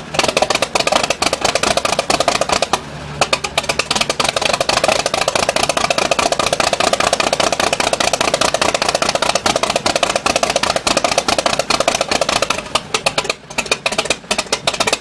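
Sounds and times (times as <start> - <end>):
aircraft engine running: 0.0 - 15.0
engine shutting down with pops: 0.0 - 15.0.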